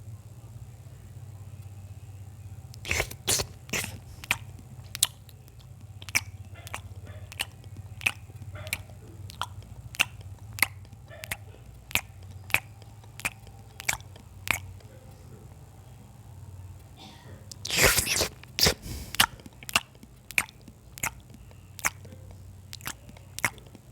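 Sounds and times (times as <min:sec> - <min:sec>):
wet chewing smacks: 0:02.7 - 0:15.4, 0:16.8 - 0:23.9.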